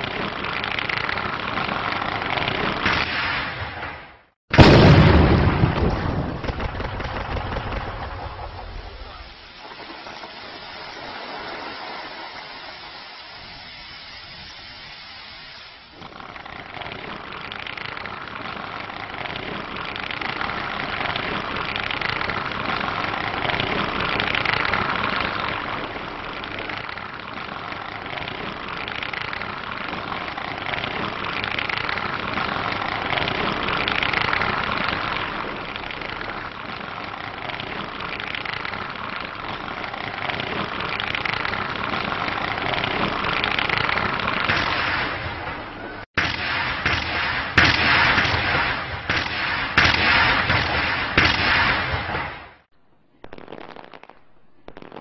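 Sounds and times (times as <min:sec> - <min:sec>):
fireworks hissing and crackling: 0:00.0 - 0:55.0
sharp firework bangs: 0:00.0 - 0:55.0.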